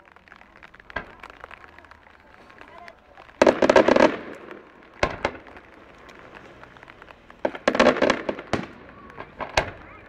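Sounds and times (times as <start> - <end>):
fireworks crackling bangs: 0.0 - 10.0
fireworks sharp bangs: 0.6 - 10.0.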